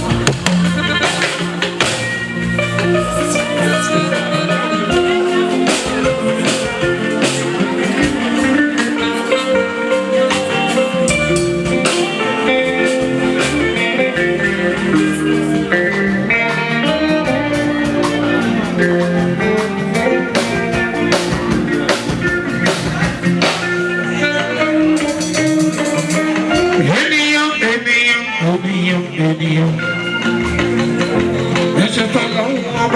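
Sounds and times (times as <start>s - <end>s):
percussion strikes: 0.0s - 24.2s, 24.8s - 27.2s
melodic instrument line: 0.0s - 27.0s.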